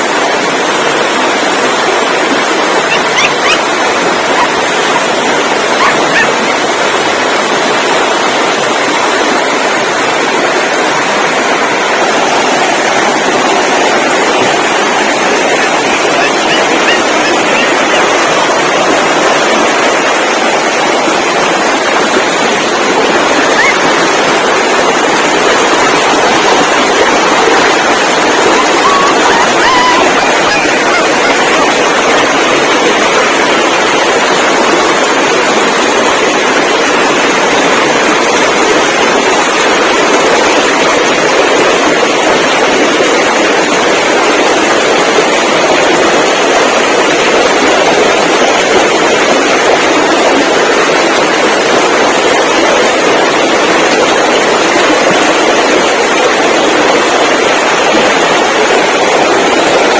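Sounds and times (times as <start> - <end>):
loud steady rushing noise: 0.0 - 59.9.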